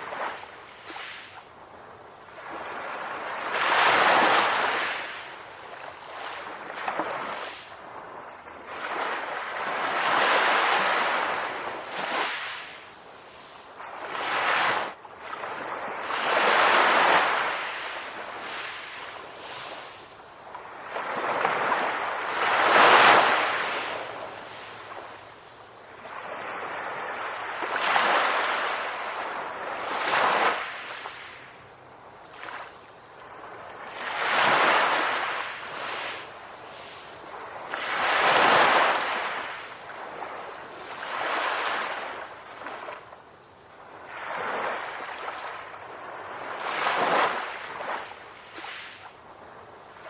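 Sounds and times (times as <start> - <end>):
ocean waves breaking on shore: 0.0 - 50.0.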